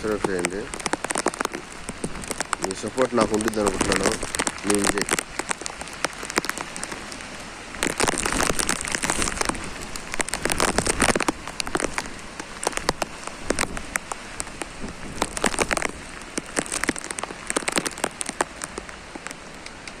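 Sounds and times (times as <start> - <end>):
heavy rain on hard surfaces: 0.0 - 20.0.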